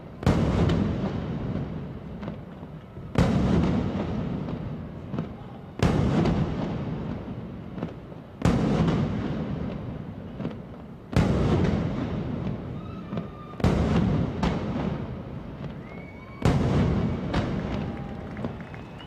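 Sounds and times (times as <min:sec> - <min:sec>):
fireworks booms: 0:00.0 - 0:19.0
small firework cracks: 0:00.0 - 0:19.0.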